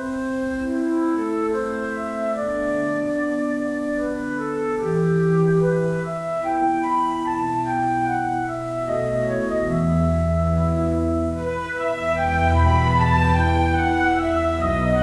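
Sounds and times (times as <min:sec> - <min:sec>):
organ-like keyboard chords: 0:00.0 - 0:15.0.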